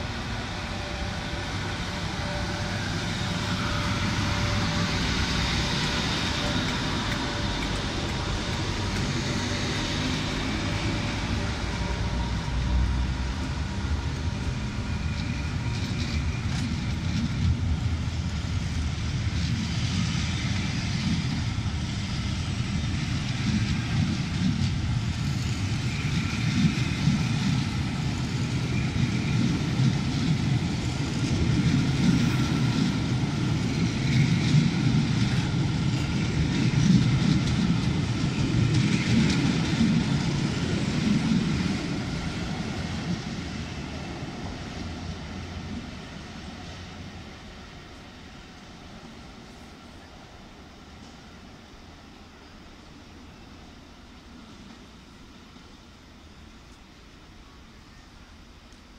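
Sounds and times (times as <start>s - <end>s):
train wheels rumbling on rails: 0.0s - 57.2s
electric locomotive departing: 0.0s - 58.9s.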